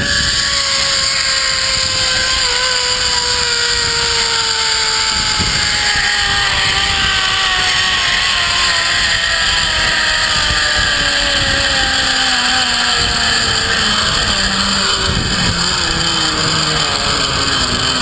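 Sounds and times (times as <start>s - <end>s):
zip-line pulleys whining on cable: 0.0s - 18.0s.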